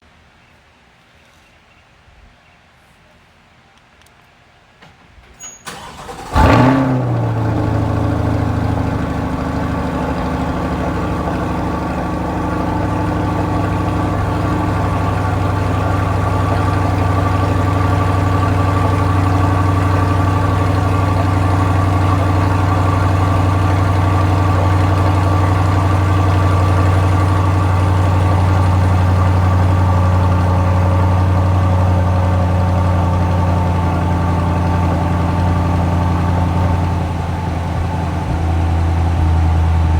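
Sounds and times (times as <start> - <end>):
car engine cold start and idle: 5.4 - 39.9.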